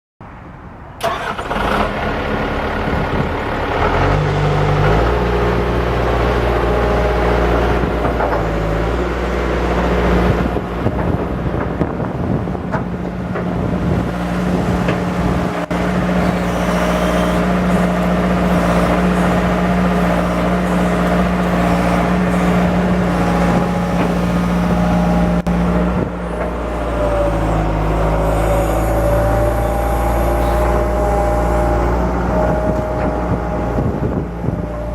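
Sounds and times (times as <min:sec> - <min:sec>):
excavator diesel engine running: 0:00.8 - 0:34.9.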